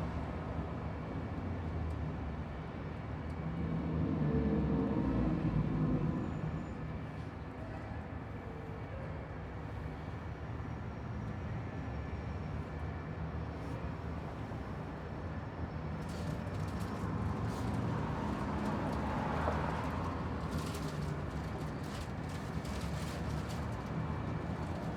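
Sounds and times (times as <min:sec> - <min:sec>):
low engine rumble of traffic: 0:00.0 - 0:24.9.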